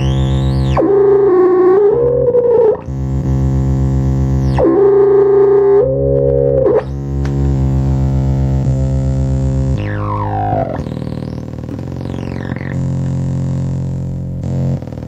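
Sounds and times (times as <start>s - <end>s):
buzzy electronic synthesizer drone: 0.0s - 15.0s.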